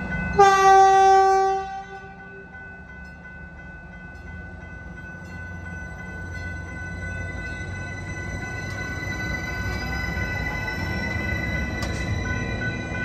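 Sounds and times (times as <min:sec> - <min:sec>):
crossing bell ringing: 0:00.0 - 0:13.0
train wheels rumbling: 0:00.0 - 0:13.0.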